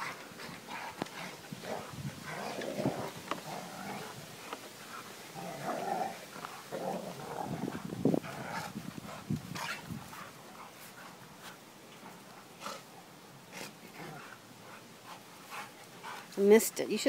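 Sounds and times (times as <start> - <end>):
dogs growling: 0.0 - 16.4.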